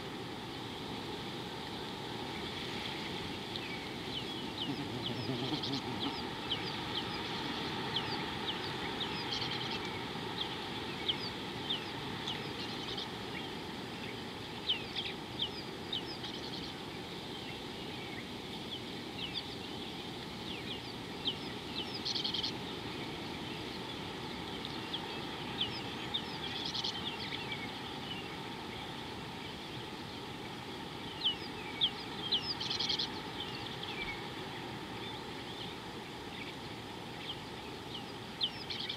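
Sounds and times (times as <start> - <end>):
birds chirping: 1.6 - 38.9.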